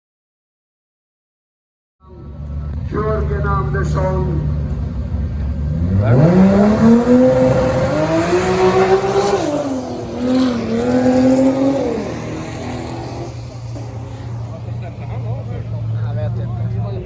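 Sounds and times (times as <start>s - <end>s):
race car accelerating hard: 2.2s - 17.0s.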